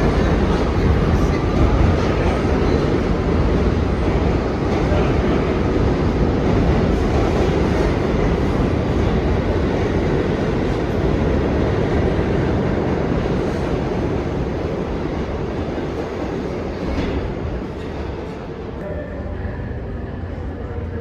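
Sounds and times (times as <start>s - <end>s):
subway train wheels on rails: 0.0s - 21.0s.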